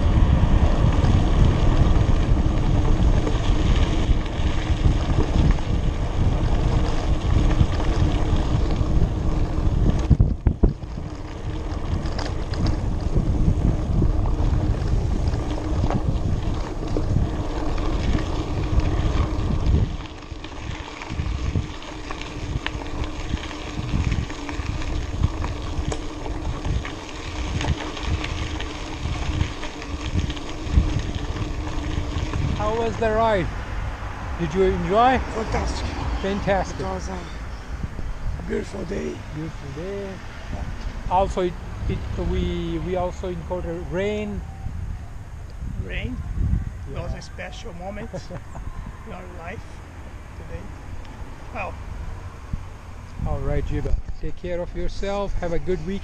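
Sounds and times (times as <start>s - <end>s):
bike rattling over bumps: 0.0s - 38.8s, 39.6s - 56.0s
bike tyres rumbling on dirt: 0.0s - 56.0s
wind buffeting microphone: 0.0s - 56.0s.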